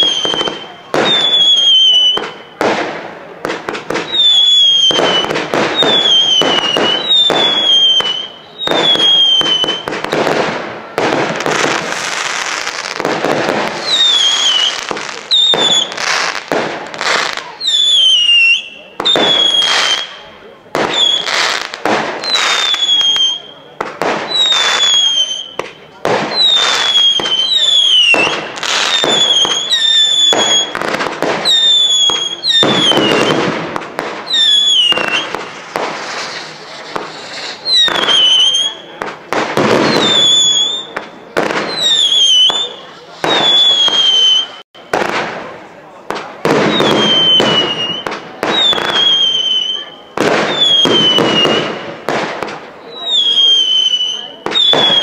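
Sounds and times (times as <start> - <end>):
firework bangs: 0.0 - 55.0
fireworks crackling: 0.0 - 55.0
whistling fireworks: 0.0 - 55.0.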